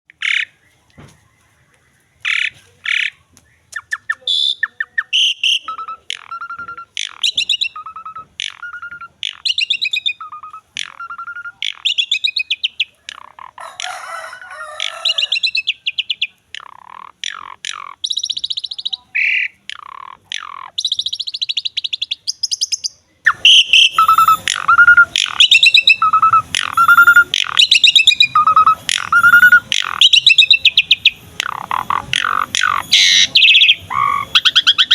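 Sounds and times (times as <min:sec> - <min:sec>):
starling singing: 0:02.2 - 0:34.9.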